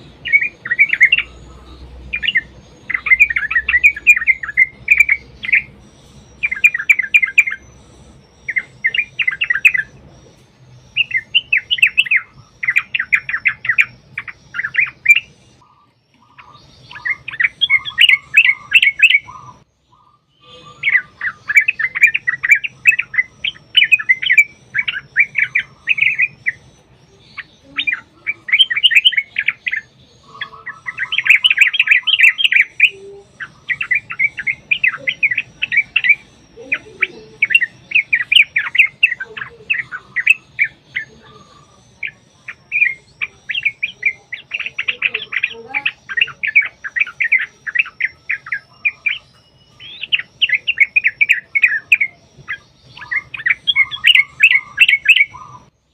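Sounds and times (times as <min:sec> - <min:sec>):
bulbul chattering song: 0:00.0 - 0:55.9.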